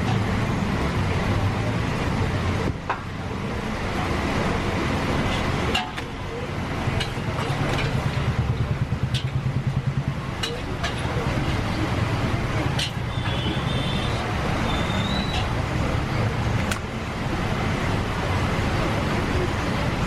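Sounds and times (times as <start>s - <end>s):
roadside traffic: 0.0s - 20.0s
vehicle engine humming: 0.0s - 20.0s.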